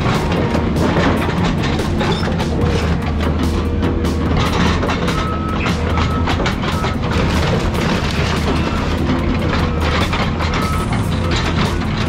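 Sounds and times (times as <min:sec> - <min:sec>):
excavator engine running: 0:00.0 - 0:12.0
metal clanking and crunching: 0:00.0 - 0:12.0.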